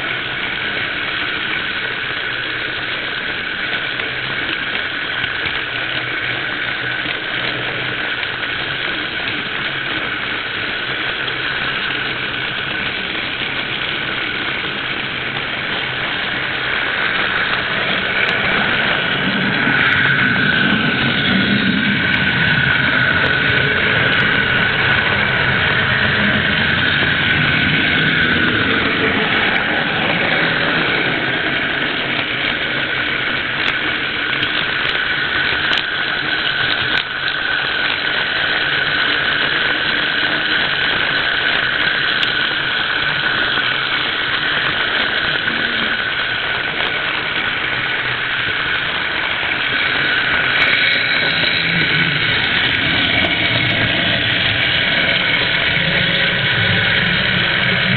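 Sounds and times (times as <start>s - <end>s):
model train running on track: 0.0s - 57.9s.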